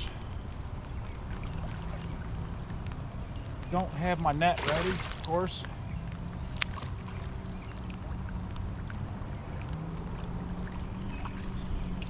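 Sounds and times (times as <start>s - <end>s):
low motor hum: 0.0s - 12.0s
water sloshing at hull: 0.8s - 12.0s.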